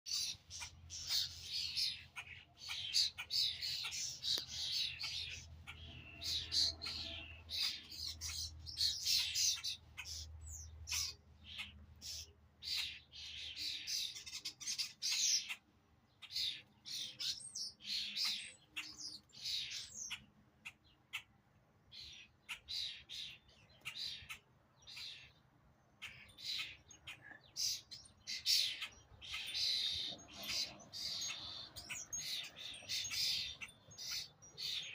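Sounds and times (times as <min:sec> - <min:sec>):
birds chirping and squawking: 0:00.1 - 0:34.9.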